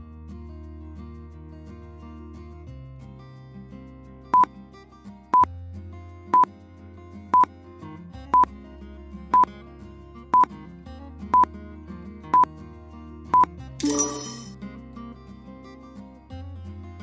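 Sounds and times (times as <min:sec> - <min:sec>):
soft background music: 0:01.7 - 0:17.0.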